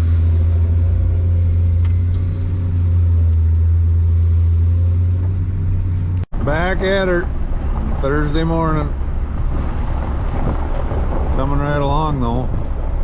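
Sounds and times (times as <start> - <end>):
excavator engine droning: 0.0 - 13.0.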